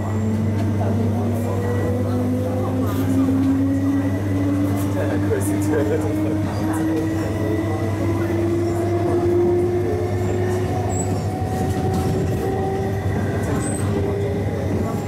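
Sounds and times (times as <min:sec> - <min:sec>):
rail running noise: 0:00.0 - 0:15.0.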